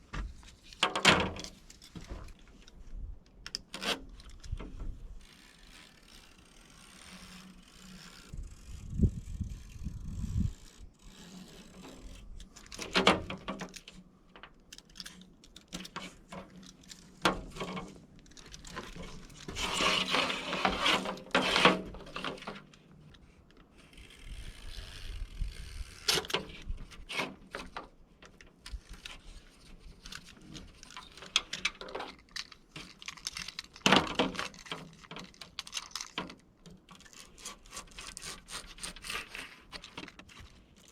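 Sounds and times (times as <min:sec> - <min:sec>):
scraping and rubbing on window screen: 0:03.7 - 0:14.1, 0:14.8 - 0:40.9.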